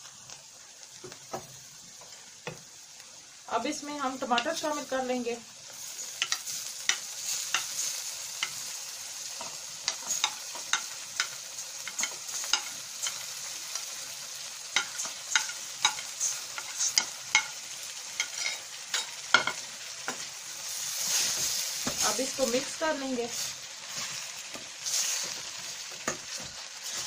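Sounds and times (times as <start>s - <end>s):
oil sizzling in pan: 0.0s - 27.0s.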